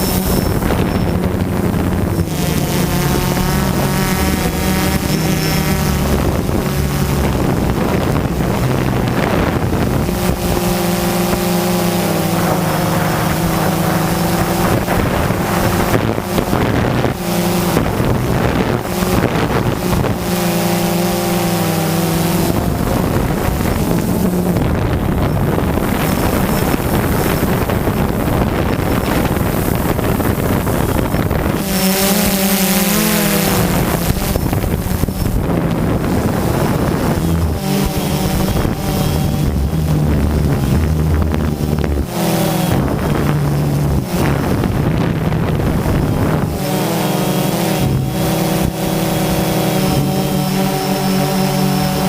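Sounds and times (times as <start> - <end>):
drone motors buzzing: 0.0 - 52.0
wind rushing over microphone: 0.0 - 52.0.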